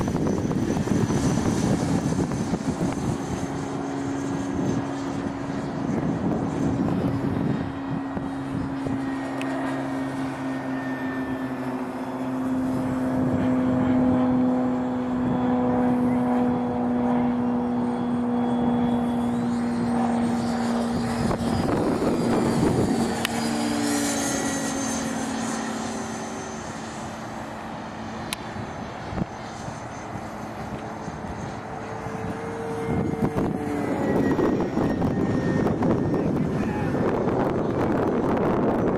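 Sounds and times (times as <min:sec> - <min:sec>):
model jet fans whining: 0:00.0 - 0:38.9.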